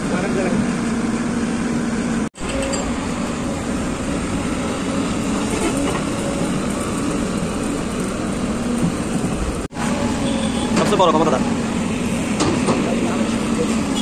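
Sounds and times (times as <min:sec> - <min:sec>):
diesel machinery running: 0:00.0 - 0:14.0.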